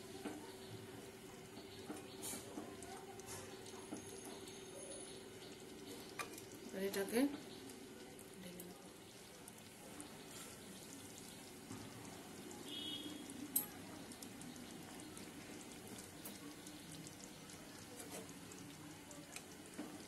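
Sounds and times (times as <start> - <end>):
curry bubbling in a pan: 0.0 - 20.0.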